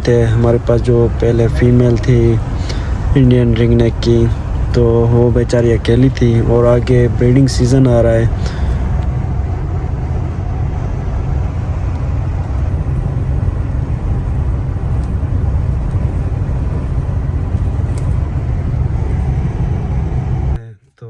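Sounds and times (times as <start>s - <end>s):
vehicle rumbling on road: 0.0s - 20.6s.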